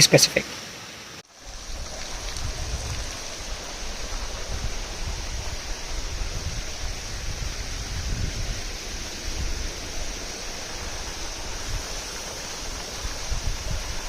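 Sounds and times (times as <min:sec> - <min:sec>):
water rushing: 0:00.0 - 0:14.0
wind buffeting microphone: 0:01.4 - 0:14.0.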